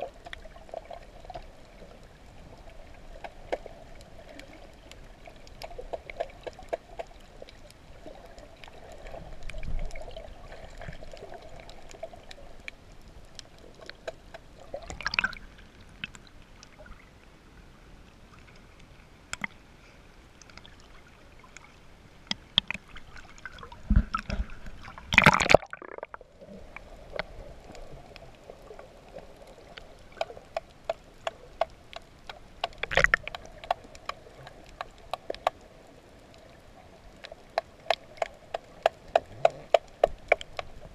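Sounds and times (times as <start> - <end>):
water splashes: 0.0 - 17.2, 20.4 - 40.9
water sloshing and gurgling: 0.0 - 17.3, 18.1 - 40.9.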